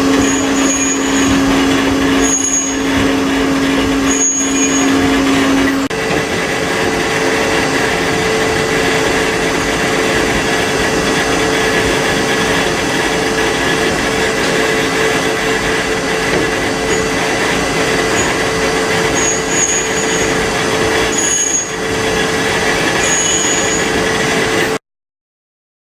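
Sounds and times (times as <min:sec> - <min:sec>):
lathe machine whine: 0:00.0 - 0:24.8.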